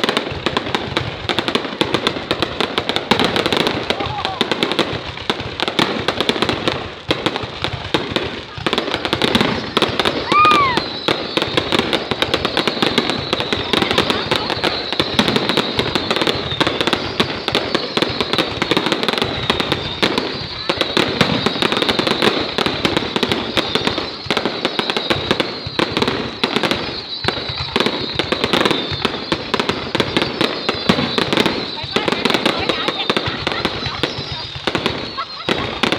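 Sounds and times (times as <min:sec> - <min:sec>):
fireworks cracking and popping: 0:00.0 - 0:35.9
falling firework whistle: 0:02.9 - 0:04.9, 0:08.9 - 0:35.9.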